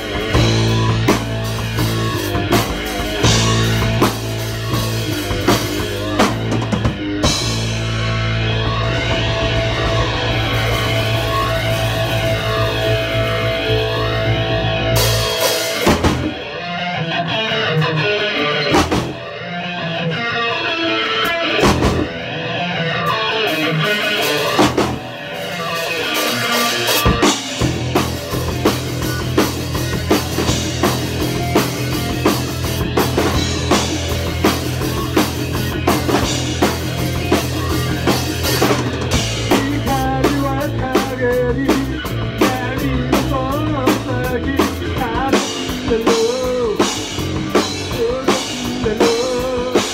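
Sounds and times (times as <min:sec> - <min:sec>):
drum and cymbal hits: 0:00.0 - 0:16.4, 0:24.3 - 0:49.9
electric guitars ringing: 0:00.0 - 0:49.9
live rock band playing: 0:00.0 - 0:49.9.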